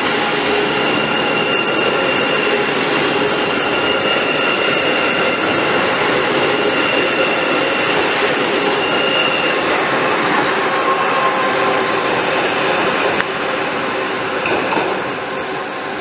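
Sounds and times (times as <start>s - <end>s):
train passing with rushing noise: 0.0s - 16.0s.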